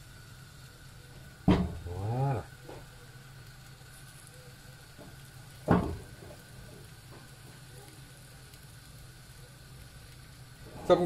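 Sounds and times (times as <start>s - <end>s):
omelette sizzling in a frying pan: 0.0s - 11.0s.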